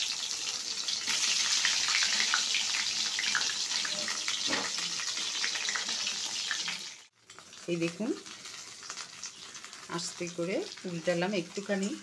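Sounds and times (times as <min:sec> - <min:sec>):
eggplant sizzling in hot oil: 0:00.0 - 0:12.0.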